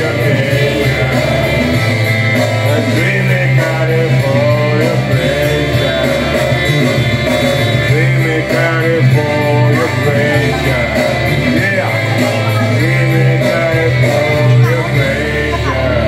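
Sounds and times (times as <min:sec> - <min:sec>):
loud backing music: 0:00.0 - 0:16.0
man singing into microphone: 0:00.0 - 0:16.0.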